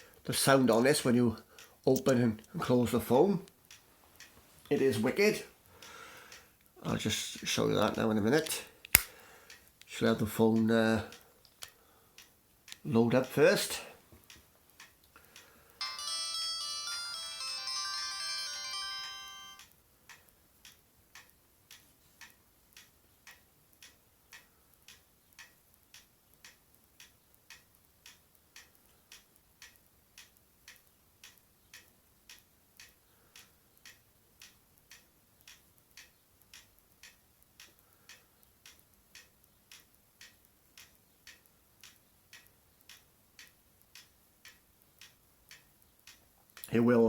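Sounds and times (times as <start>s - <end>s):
faint regular ticking: 0.0s - 15.8s, 19.6s - 47.0s.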